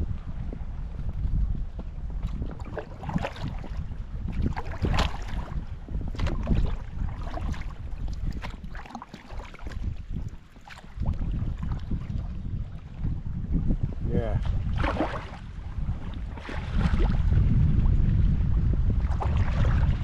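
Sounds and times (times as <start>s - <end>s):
choppy water against boat: 0.0s - 20.0s
wind buffeting microphone: 0.0s - 20.0s
kayak paddle splashes: 2.2s - 13.0s, 14.4s - 20.0s.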